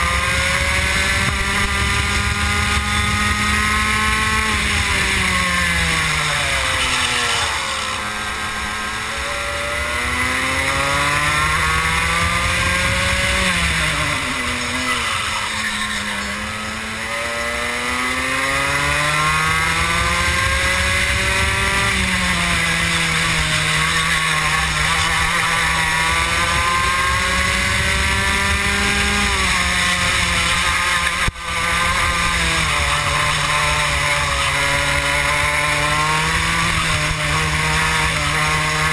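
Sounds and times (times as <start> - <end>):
two-stroke kart engine revving: 0.0 - 38.9.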